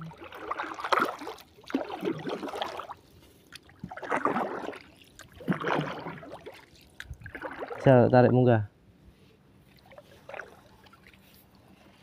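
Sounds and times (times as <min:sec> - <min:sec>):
paddle strokes in water: 0:00.0 - 0:07.9, 0:09.2 - 0:12.0.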